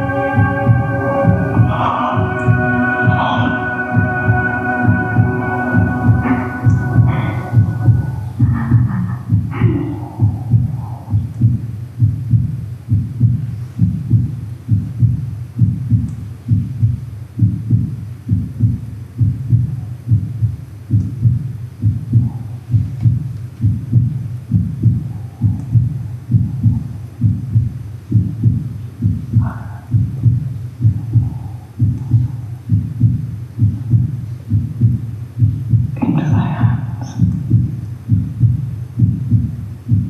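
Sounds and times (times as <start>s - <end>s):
heartbeat: 0.0s - 40.0s.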